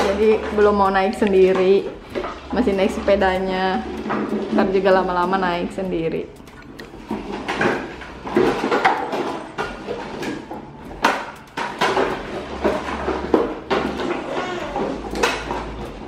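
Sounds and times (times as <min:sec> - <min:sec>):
plastic toys knocking on tiled floor: 0:00.0 - 0:05.8, 0:07.0 - 0:16.0.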